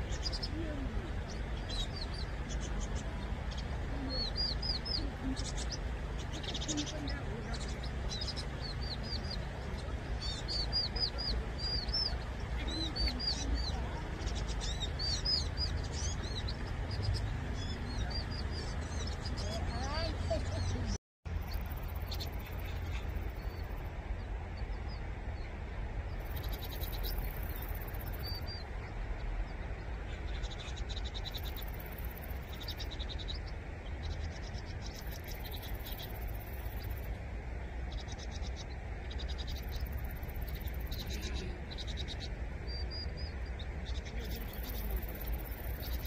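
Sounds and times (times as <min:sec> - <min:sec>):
birds chattering: 0:00.0 - 0:46.0.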